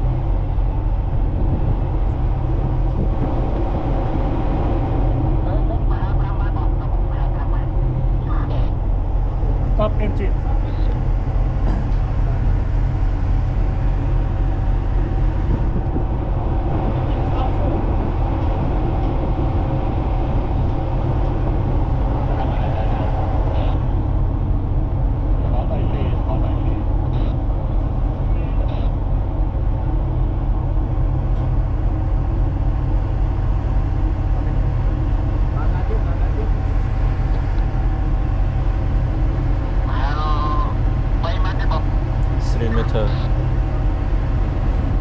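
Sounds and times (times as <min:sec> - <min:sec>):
ship diesel engine rumbling: 0:00.0 - 0:45.0.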